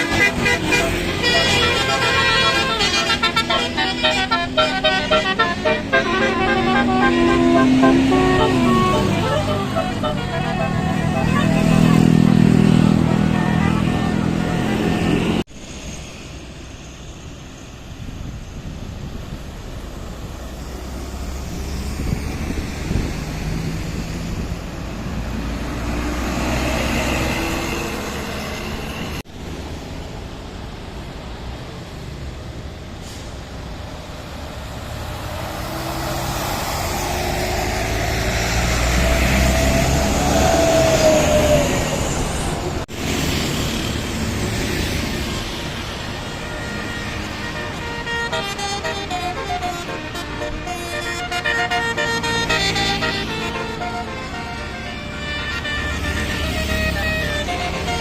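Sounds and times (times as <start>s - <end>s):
heavy vehicles driving past: 0.0s - 58.0s.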